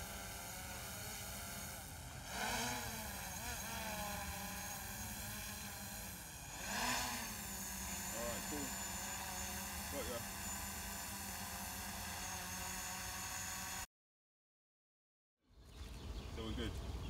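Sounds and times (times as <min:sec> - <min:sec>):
drone propeller motors whining: 0:00.0 - 0:13.9.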